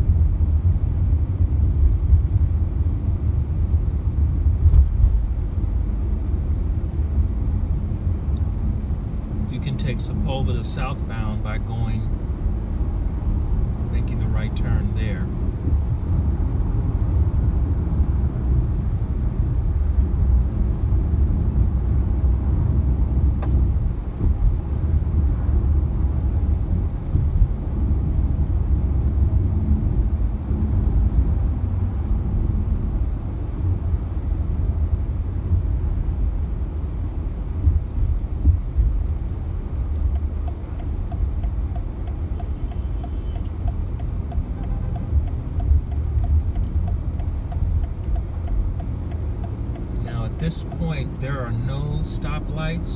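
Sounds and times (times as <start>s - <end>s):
car engine: 0.0s - 52.9s
road rumble: 0.0s - 52.9s.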